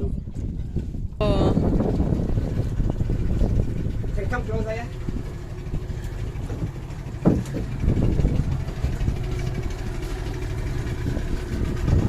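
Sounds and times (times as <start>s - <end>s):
motorboat engine rumbling: 0.0s - 12.0s.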